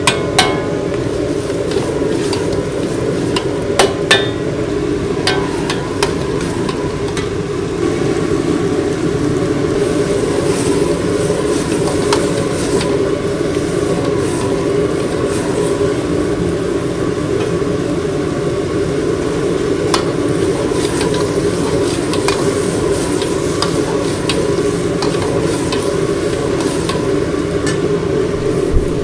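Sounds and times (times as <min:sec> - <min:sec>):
utensils and dishes clinking: 0:00.0 - 0:08.3, 0:09.7 - 0:16.4, 0:19.9 - 0:29.0
restaurant kitchen noise: 0:00.0 - 0:29.0.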